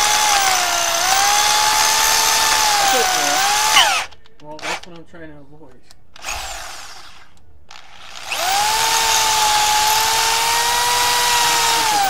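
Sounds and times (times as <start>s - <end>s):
electric drill boring into metal: 0.0s - 4.9s, 6.2s - 12.0s.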